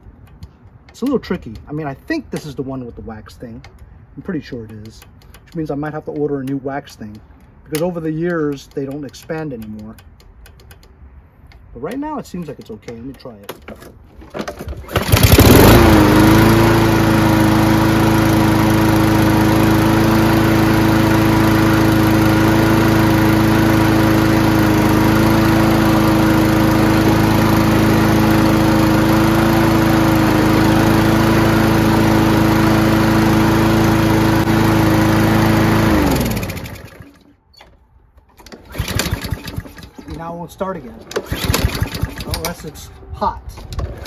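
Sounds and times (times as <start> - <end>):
lawn mower engine running: 0.0 - 42.9, 43.5 - 44.0.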